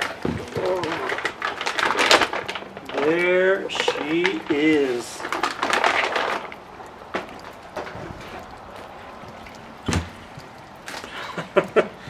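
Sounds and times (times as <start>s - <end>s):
plastic bag rustling and crinkling: 0.0s - 11.4s.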